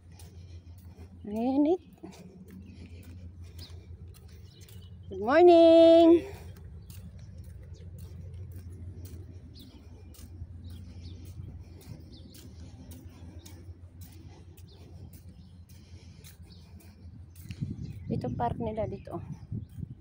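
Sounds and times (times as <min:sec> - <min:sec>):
footsteps: 0:00.0 - 0:19.2
low rumble: 0:00.0 - 0:20.0
small birds chirping: 0:00.0 - 0:20.0.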